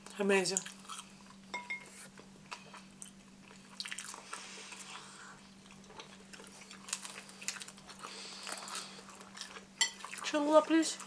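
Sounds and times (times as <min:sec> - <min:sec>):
pizza chewing sounds: 0:00.0 - 0:11.0
steady low hum: 0:00.0 - 0:11.0.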